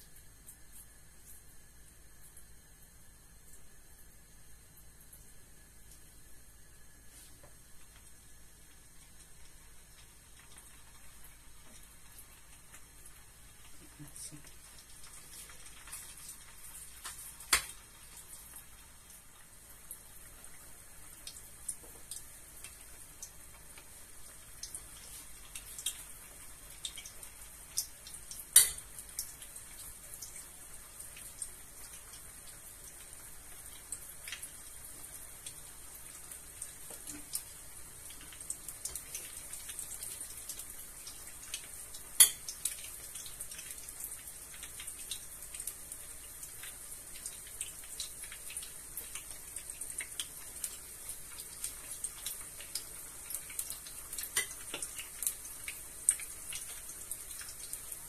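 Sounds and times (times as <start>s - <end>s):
meatballs sizzling in hot oil: 0.0s - 58.0s.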